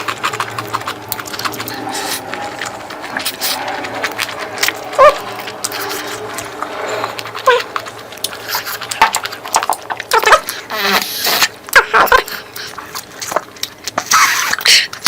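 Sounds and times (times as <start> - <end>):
squeaky slurps: 0.0 - 15.0
wet chewing: 0.0 - 15.0.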